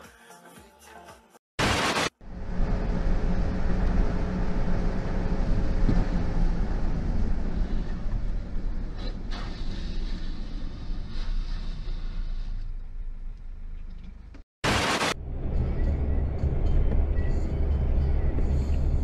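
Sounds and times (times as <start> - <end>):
car engine and road rumble: 2.2 - 19.0.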